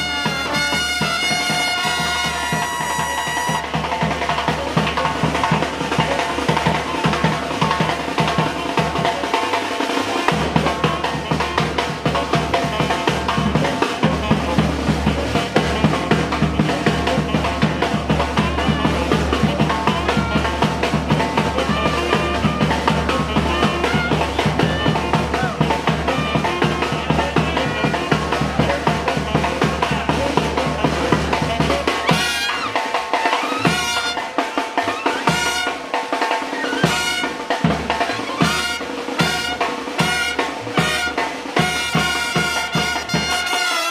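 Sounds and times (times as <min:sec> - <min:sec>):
brass and drum band playing: 0:00.0 - 0:43.9
snare drum roll: 0:00.0 - 0:43.9.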